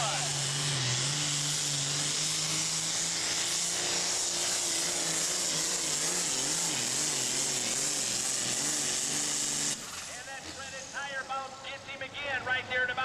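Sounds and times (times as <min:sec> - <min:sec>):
tractor diesel engine roaring: 0:00.0 - 0:13.0.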